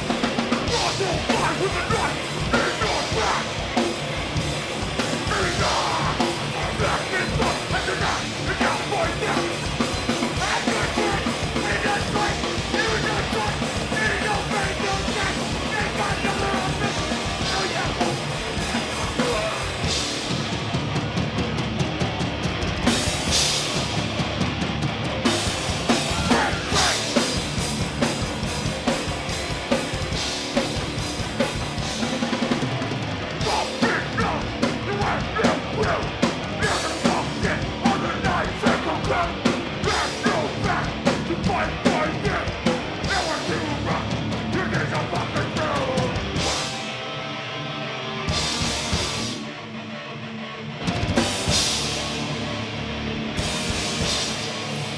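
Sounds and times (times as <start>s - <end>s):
pounding drum kit: 0.0s - 47.1s, 48.3s - 49.6s, 50.8s - 54.9s
live punk band playing: 0.0s - 54.9s.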